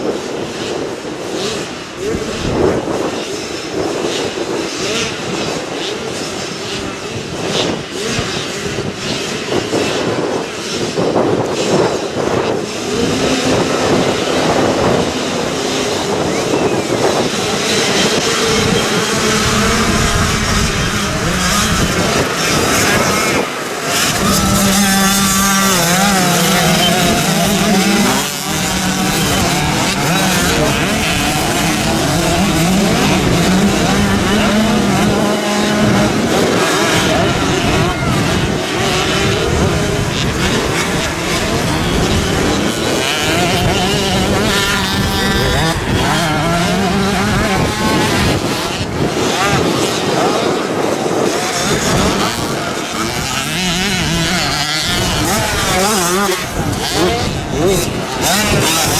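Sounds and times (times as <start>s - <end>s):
motocross bikes revving: 0.0s - 58.9s.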